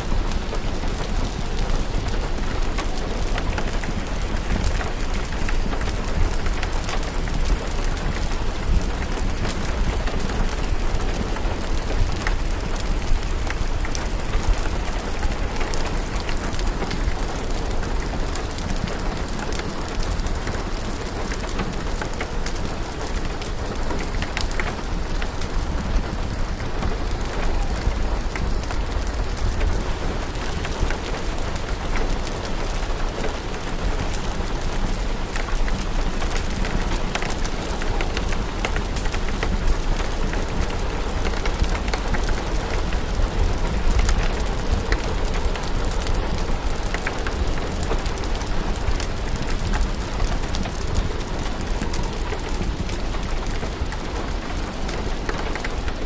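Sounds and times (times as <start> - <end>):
fireplace fire crackling: 0.0 - 56.0
steady rain falling: 0.0 - 56.0.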